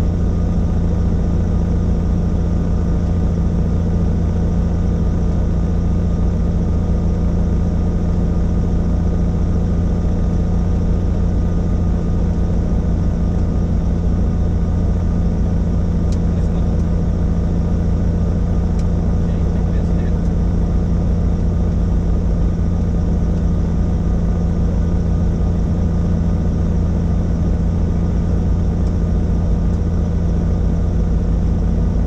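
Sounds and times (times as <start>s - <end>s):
helicopter drone: 0.0s - 32.0s.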